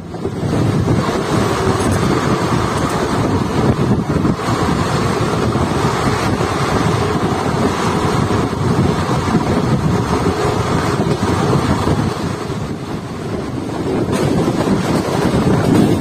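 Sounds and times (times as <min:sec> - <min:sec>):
train wheels rumbling on track: 0:00.0 - 0:16.0
wind buffeting the microphone: 0:00.0 - 0:16.0.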